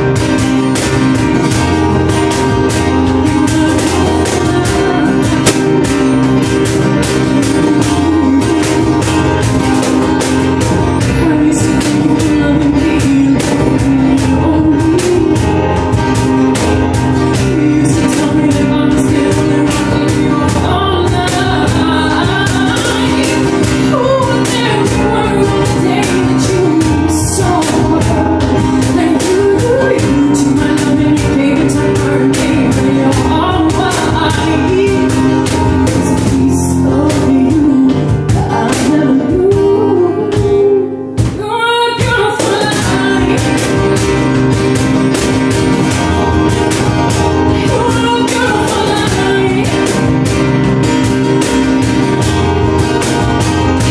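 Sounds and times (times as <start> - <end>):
hand percussion beat: 0.0 - 41.4, 42.0 - 53.9
acoustic guitar: 0.0 - 53.9
digital piano: 0.0 - 53.9
woman singing: 0.0 - 53.9.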